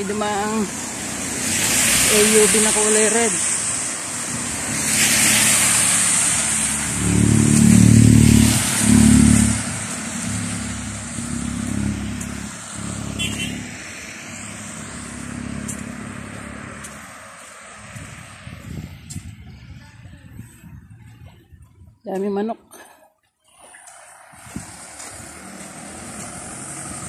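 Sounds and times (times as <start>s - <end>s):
car engine passing close: 0.0s - 18.8s, 23.9s - 27.0s
tyres hissing on wet road: 0.0s - 19.1s, 23.6s - 27.0s.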